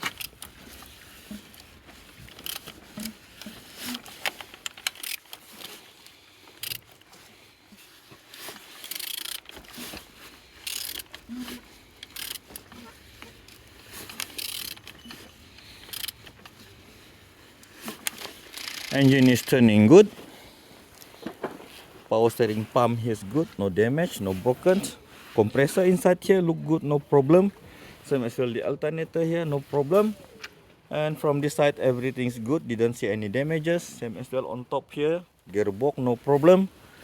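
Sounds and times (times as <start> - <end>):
engine clicking and scraping: 0.0 - 34.3.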